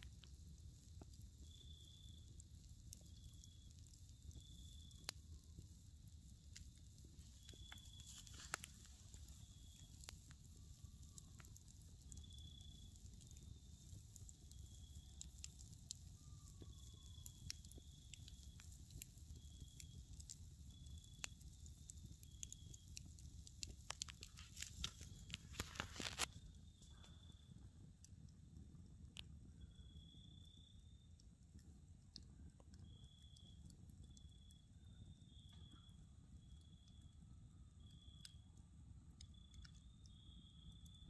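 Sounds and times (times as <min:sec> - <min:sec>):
campfire crackling and popping: 0:00.0 - 0:37.2, 0:39.1 - 0:41.0.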